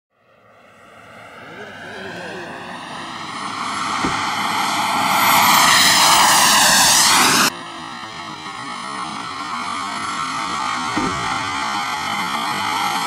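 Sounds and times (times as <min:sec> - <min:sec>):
model jet turbine whine: 0:00.2 - 0:13.0.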